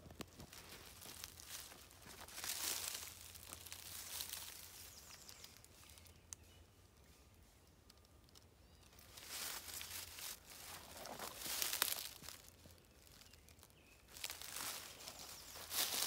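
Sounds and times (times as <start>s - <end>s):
dry leaves rustling and crackling: 0.0s - 6.3s, 8.0s - 16.0s.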